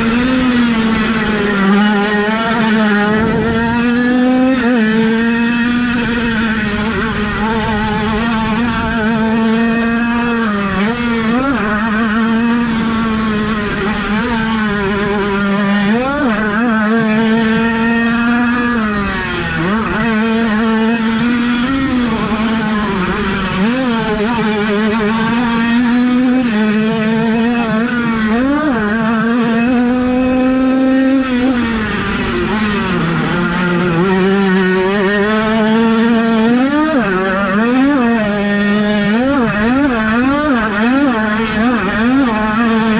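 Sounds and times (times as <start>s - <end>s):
engine revving: 0.0s - 42.9s
motocross bikes racing: 0.0s - 42.9s.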